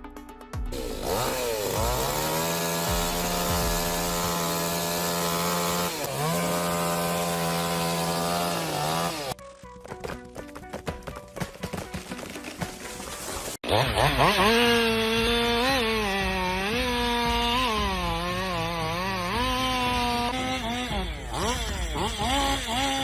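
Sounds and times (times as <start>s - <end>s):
chainsaw cutting log: 0.7s - 9.4s, 12.0s - 23.0s.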